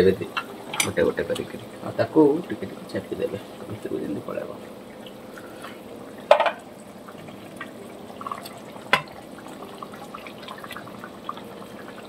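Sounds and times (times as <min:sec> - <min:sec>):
gravy bubbling at a boil: 0:00.0 - 0:12.0.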